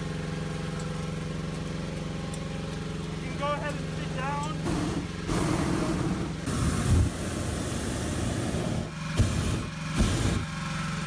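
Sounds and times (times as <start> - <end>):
propane burner roaring: 0.0 - 11.0
steady engine hum: 0.0 - 11.0.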